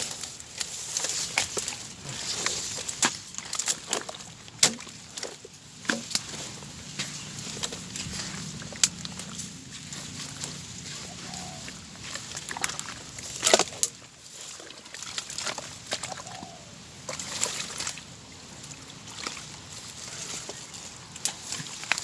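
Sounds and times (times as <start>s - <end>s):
water and mud sloshing: 0.0s - 22.0s.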